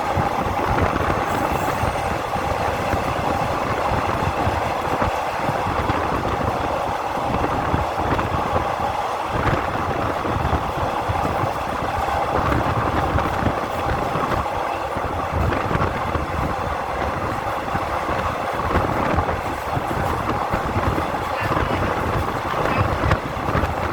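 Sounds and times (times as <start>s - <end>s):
train rumbling on rails: 0.0s - 23.9s.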